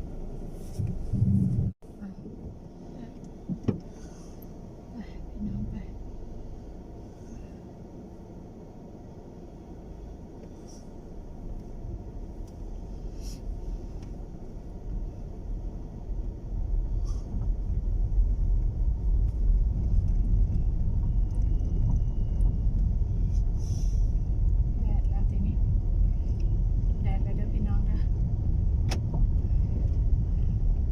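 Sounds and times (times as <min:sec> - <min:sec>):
car rumble inside cabin: 0:00.0 - 0:30.9.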